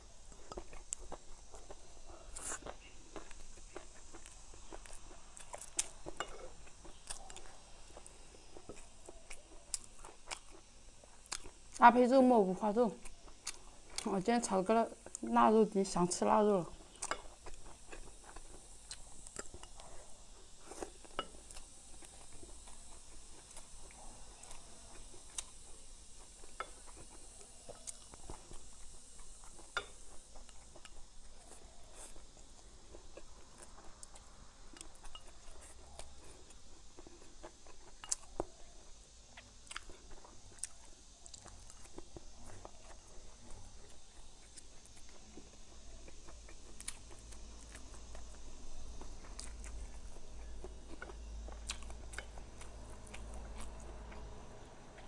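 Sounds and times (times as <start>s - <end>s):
chewing and biting food: 0.3s - 11.9s, 13.0s - 14.2s, 16.8s - 55.0s.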